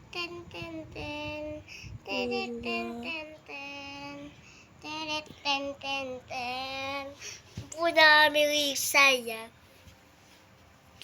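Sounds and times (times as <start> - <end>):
child singing: 0.0 - 9.5.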